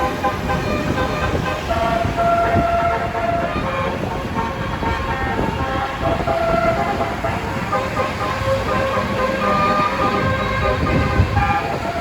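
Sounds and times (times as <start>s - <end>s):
bus engine: 0.0s - 12.0s
multi-tone air horn playing tune: 0.0s - 12.0s.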